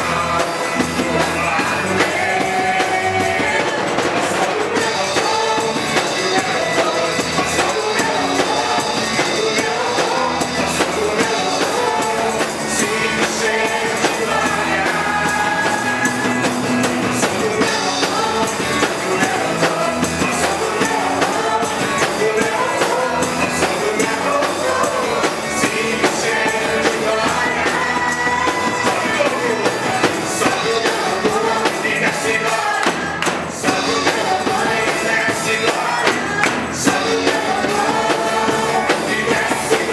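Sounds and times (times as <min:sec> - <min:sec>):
band with drums: 0:00.0 - 0:39.9
tambourine: 0:00.0 - 0:39.9
worship song singing: 0:00.0 - 0:39.9.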